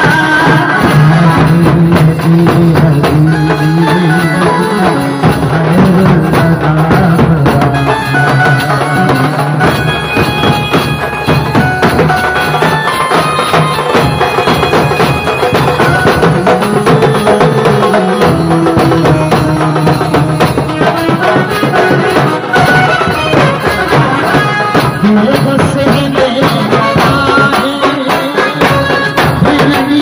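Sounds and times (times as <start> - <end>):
live folk band through loudspeakers: 0.0 - 30.0
stick-beaten drum rhythm: 0.0 - 30.0.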